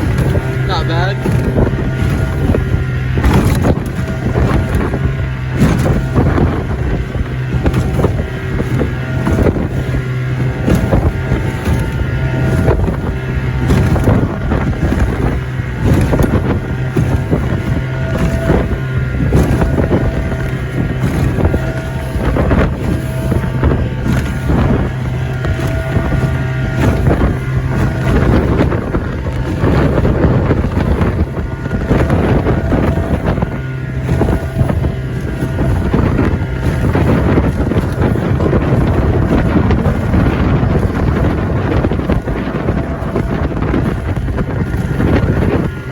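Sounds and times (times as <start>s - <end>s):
boat hull slapping waves: 0.0s - 45.9s
outboard motor running: 0.0s - 45.9s
water splashing: 0.0s - 45.9s
wind buffeting microphone: 0.0s - 45.9s.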